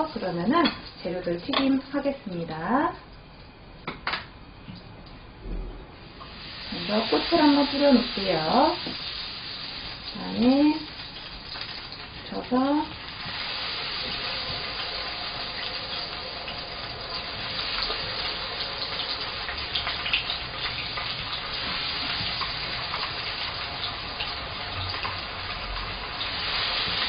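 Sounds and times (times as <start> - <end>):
food deep-frying in hot oil: 0.0 - 3.1, 6.0 - 27.0.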